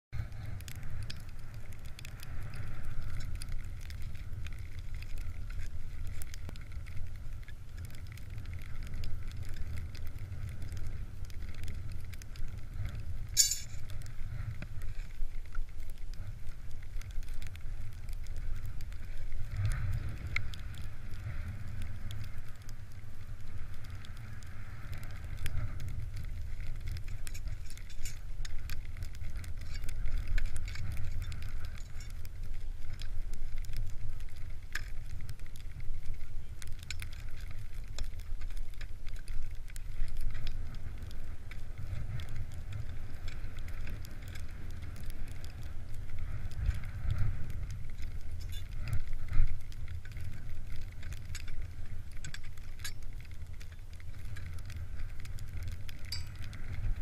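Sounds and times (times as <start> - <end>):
steady low rumble: 0.1 - 57.0.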